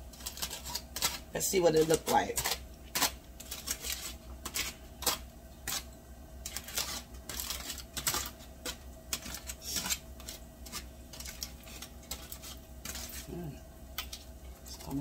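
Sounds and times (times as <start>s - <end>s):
aluminium foil crinkling: 0.0s - 15.0s
steady low hum: 0.0s - 15.0s.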